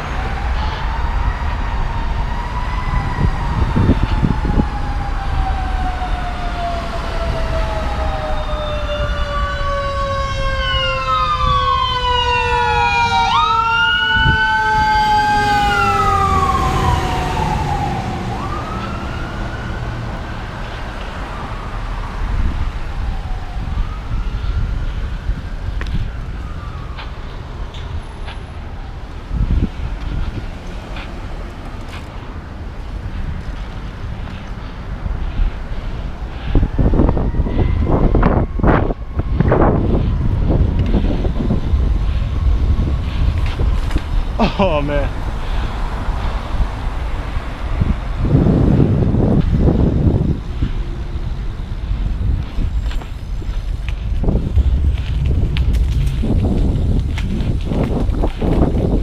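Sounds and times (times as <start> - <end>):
emergency sirens wailing: 0.0 - 59.0
wind and road noise rumble: 0.0 - 59.0.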